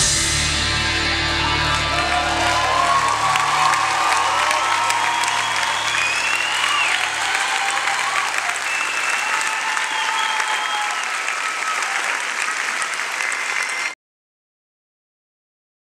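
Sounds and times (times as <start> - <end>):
people cheering: 0.5 - 14.0
audience applauding: 0.9 - 14.0.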